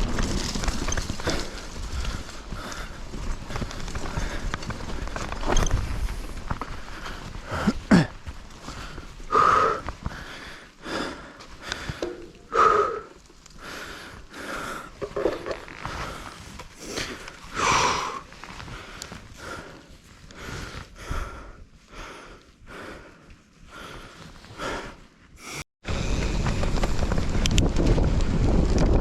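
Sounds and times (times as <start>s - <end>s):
bike ride rumble: 0.0s - 29.0s
person breathing hard: 1.2s - 5.1s, 6.6s - 26.2s.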